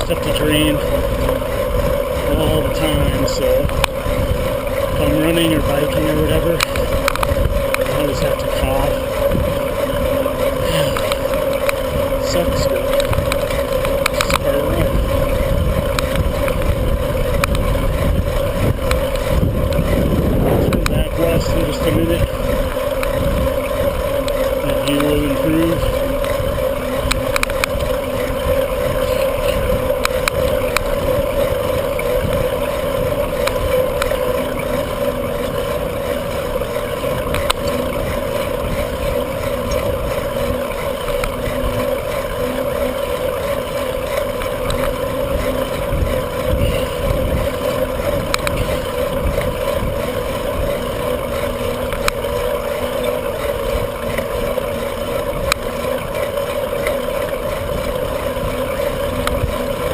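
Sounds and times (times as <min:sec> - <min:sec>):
bicycle tyre noise: 0:00.0 - 0:59.9
mid-pitched hum: 0:00.0 - 0:59.9
small clicks and rattles: 0:00.0 - 0:59.9
wind buffeting microphone: 0:00.0 - 0:59.9.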